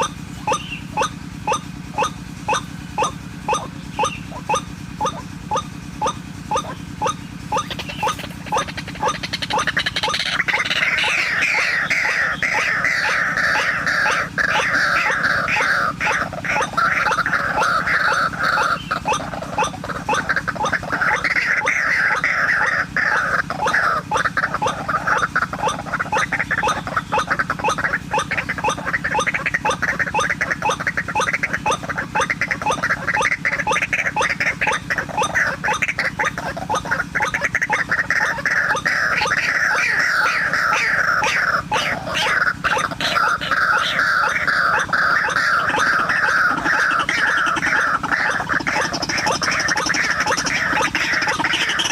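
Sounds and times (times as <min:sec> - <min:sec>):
waterhen calling: 0:00.0 - 0:51.9.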